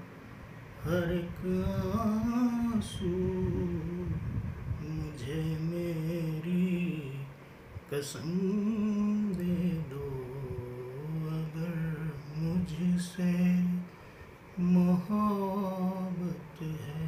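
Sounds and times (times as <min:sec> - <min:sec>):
man singing: 0:00.8 - 0:04.2, 0:04.8 - 0:13.9, 0:14.6 - 0:17.0.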